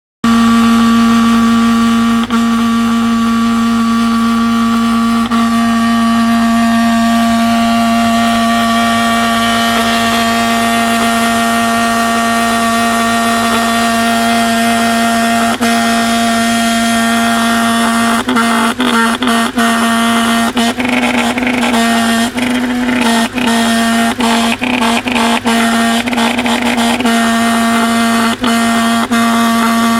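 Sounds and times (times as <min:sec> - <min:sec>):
steady even tone: 0:00.2 - 0:29.9.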